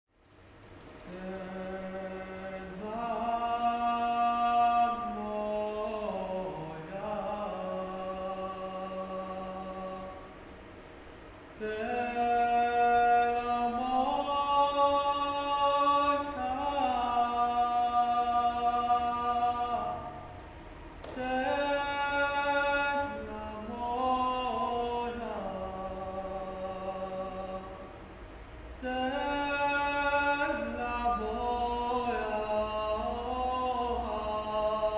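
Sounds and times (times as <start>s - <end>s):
mixed choir singing a cappella: 1.0s - 10.3s, 11.5s - 20.4s, 21.0s - 27.9s, 28.8s - 34.9s.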